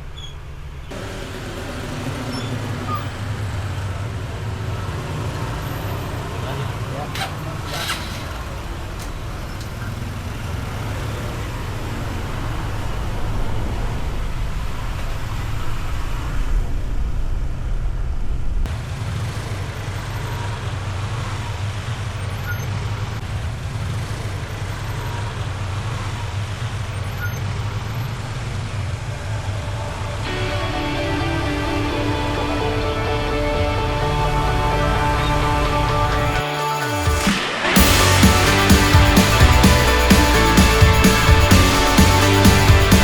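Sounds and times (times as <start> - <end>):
road and wind noise: 0.0 - 38.0.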